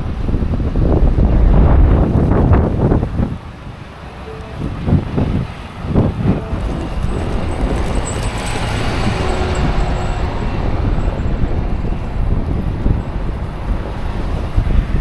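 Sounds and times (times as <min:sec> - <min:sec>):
wind buffeting microphone: 0:00.0 - 0:15.0
vehicle passing: 0:01.0 - 0:15.0.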